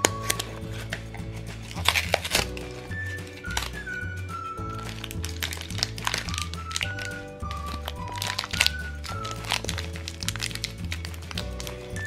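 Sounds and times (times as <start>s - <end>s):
background music with bass: 0.0s - 12.0s
plastic wrapper crinkling: 0.0s - 12.0s.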